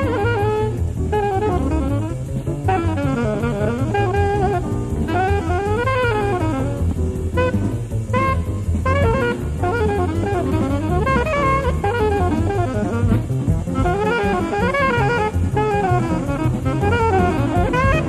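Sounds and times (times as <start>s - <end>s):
alto saxophone playing fast lines: 0.0s - 18.0s
bass: 0.0s - 18.0s
busy drum kit: 0.0s - 18.0s.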